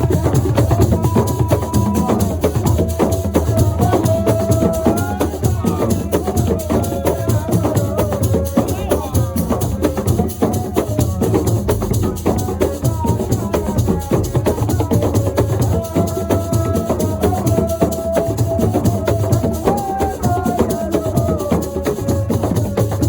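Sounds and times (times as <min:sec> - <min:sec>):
fast drums and rattles: 0:00.0 - 0:23.0.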